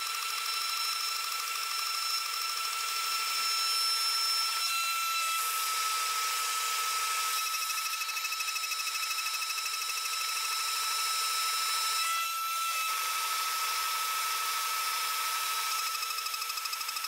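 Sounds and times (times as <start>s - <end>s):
milling cutter whine pulsing: 0.0s - 17.0s.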